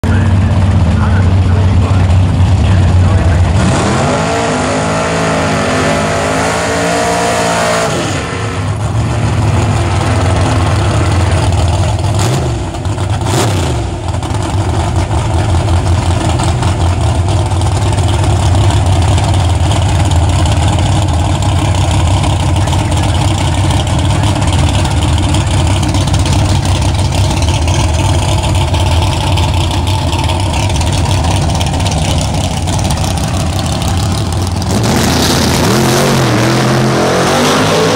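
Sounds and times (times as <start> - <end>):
car engine revving and rumbling: 0.0 - 37.9.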